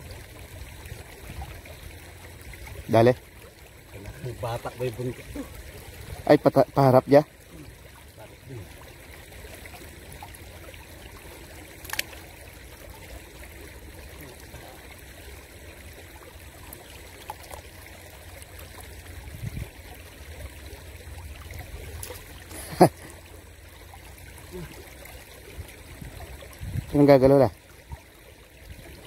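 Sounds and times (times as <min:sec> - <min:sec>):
stream trickling over stones: 0:00.0 - 0:29.0.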